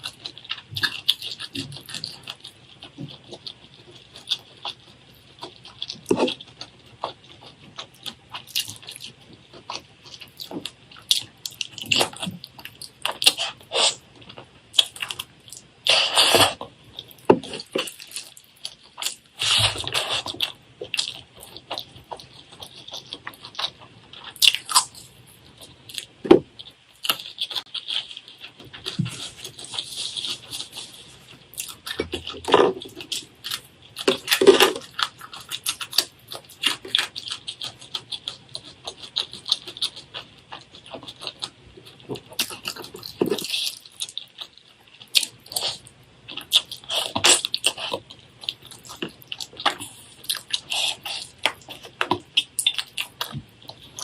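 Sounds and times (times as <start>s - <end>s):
chewing with crunches: 0.0s - 54.0s.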